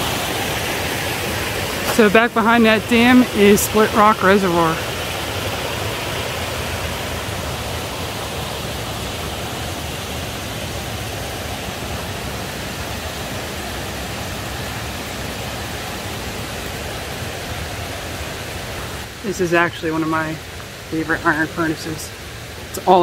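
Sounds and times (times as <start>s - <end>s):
water rushing below dam: 0.0s - 23.0s.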